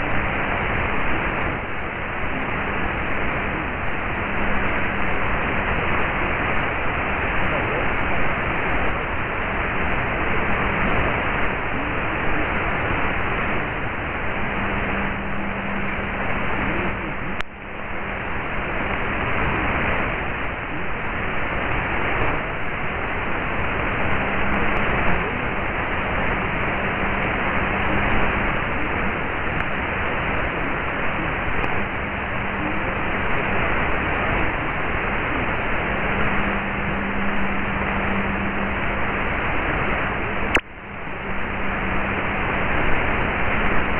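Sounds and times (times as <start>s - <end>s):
faint low hum: 0.0s - 43.9s
radio static hiss: 0.0s - 43.9s.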